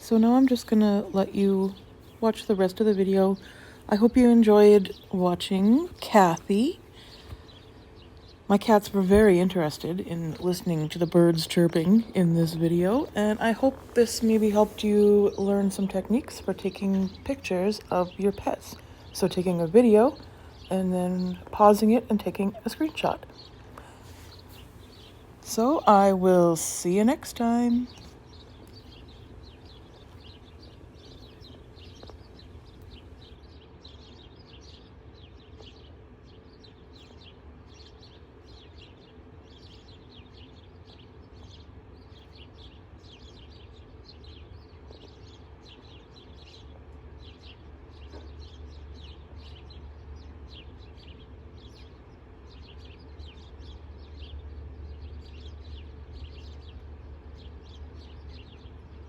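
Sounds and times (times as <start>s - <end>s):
small birds chirping: 0.0s - 59.0s
steady low hum: 0.0s - 59.0s.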